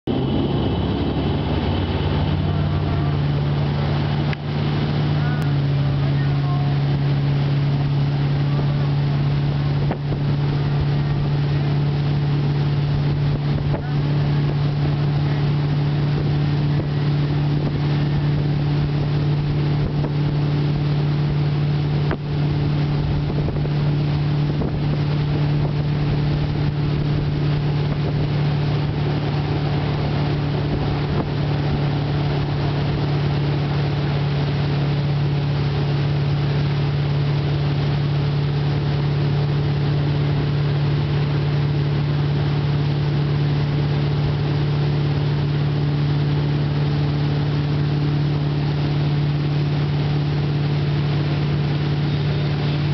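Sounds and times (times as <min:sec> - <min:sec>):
motorboat engine droning: 0:00.0 - 0:52.9
wind on microphone: 0:00.0 - 0:52.9.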